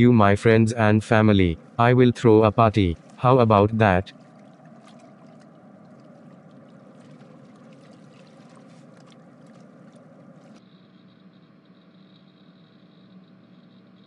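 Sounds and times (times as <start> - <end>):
background ambience noise: 0.0 - 14.0.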